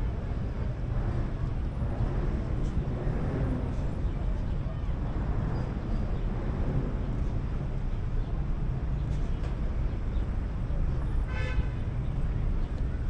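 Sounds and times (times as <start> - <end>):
rumble of vehicle engines: 0.0 - 13.0.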